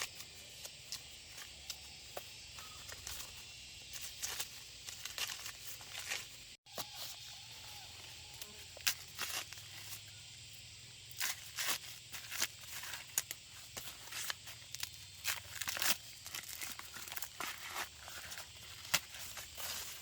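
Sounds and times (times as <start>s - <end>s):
rustling crackling and tearing: 2.7s - 10.1s, 11.1s - 20.0s.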